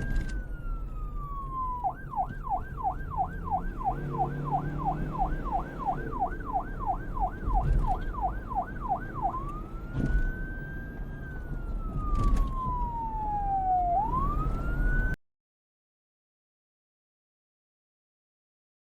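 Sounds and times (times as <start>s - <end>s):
police siren yelp and wail: 0.0s - 15.2s.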